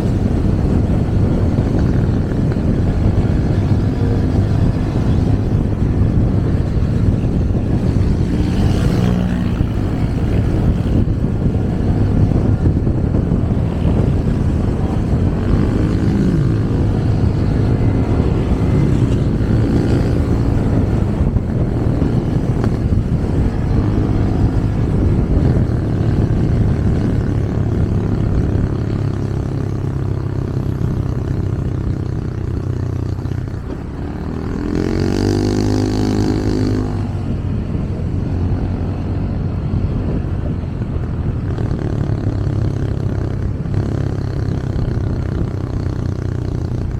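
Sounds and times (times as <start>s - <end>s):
motorcycle engine running: 0.0s - 46.9s
road and wind noise: 0.0s - 46.9s.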